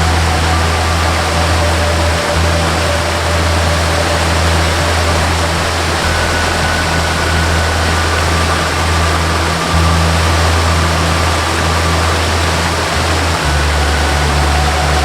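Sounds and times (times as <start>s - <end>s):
low drone: 0.0s - 15.0s
slow melody of long notes: 0.0s - 15.0s
waterfall rushing: 0.0s - 15.0s.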